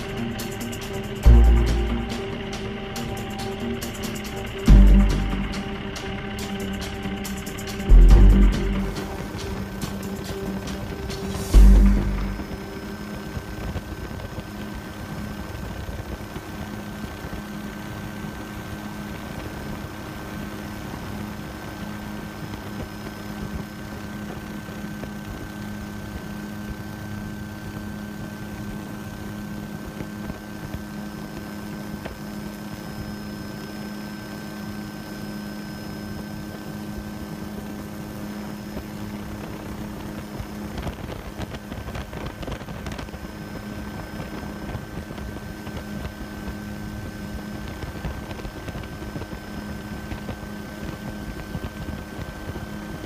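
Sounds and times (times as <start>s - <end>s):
motor humming with whine: 0.0s - 53.0s.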